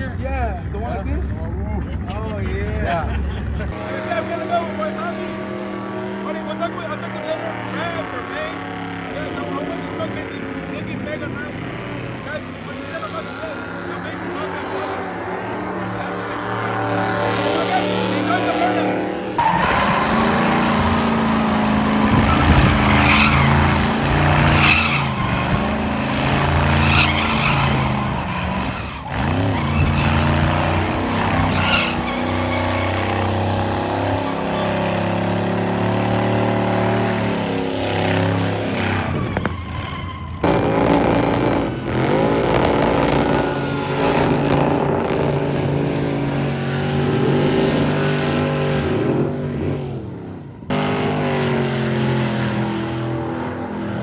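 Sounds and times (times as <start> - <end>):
tires squealing: 0.0 - 54.0
truck engine revving: 0.0 - 54.0.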